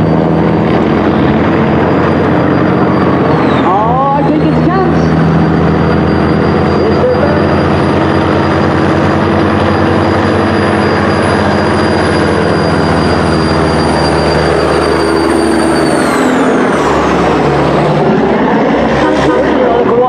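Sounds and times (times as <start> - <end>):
diesel truck engines pulling hard: 0.0 - 20.0
high engine whine: 0.0 - 20.0.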